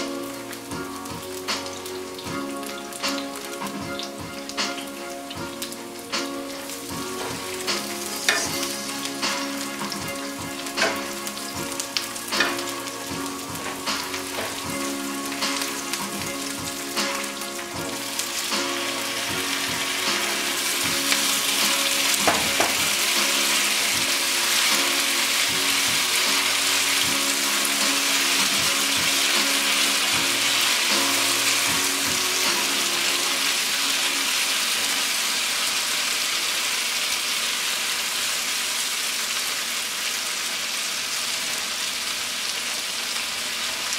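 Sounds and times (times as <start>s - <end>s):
oil sizzling with pops: 0.0s - 43.9s.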